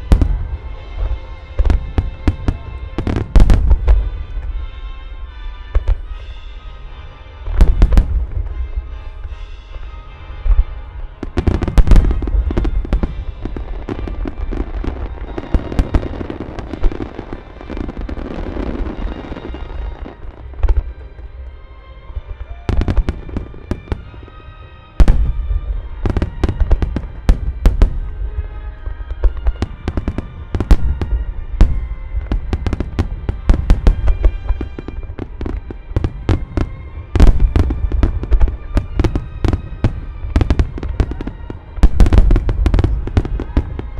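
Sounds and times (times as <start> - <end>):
fireworks booming and cracking: 0.0 - 4.6, 7.4 - 21.3, 22.2 - 24.4, 25.0 - 43.9
music playing: 0.0 - 43.9.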